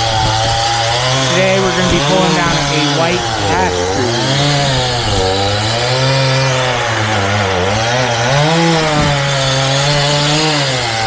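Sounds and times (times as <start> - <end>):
chainsaw cutting wood: 0.0 - 11.0.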